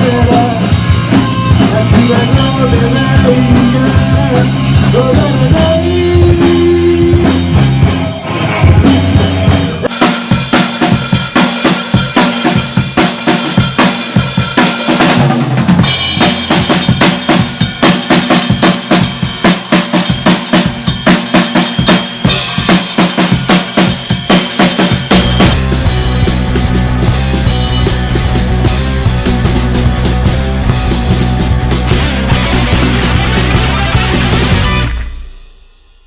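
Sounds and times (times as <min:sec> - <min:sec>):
backing track music: 0:00.0 - 0:36.0
rock drum kit playing: 0:00.0 - 0:36.0.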